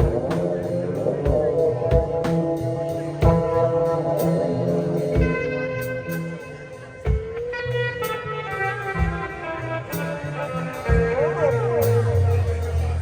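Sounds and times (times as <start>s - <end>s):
bass notes: 0.0s - 13.0s.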